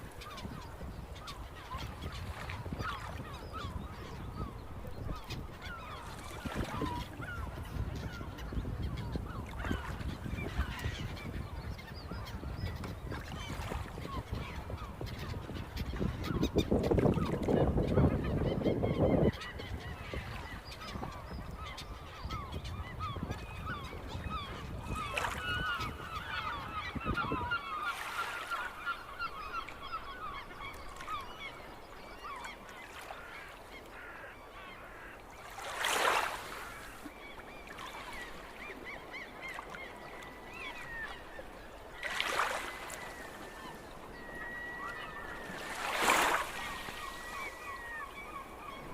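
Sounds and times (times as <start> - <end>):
seagulls calling: 0.0 - 48.9.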